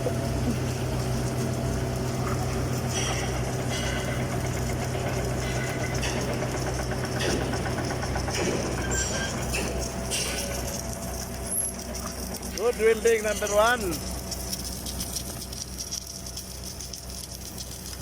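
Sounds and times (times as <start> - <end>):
welding equipment humming: 0.0 - 18.0.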